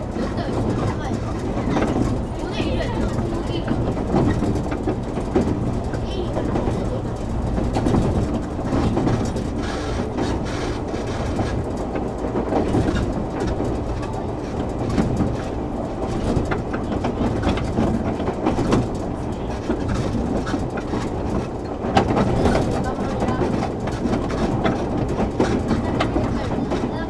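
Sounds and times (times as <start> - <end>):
train wheels rumbling: 0.0 - 27.0
wheels clacking over rail joints: 0.0 - 27.0.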